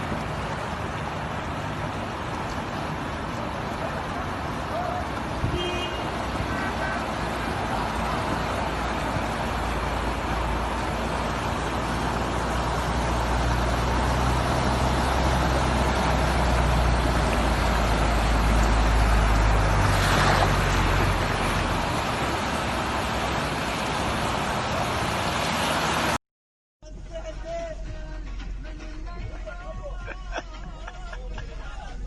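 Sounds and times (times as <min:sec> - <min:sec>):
vehicle engine hum: 0:00.0 - 0:26.2, 0:26.8 - 0:32.0.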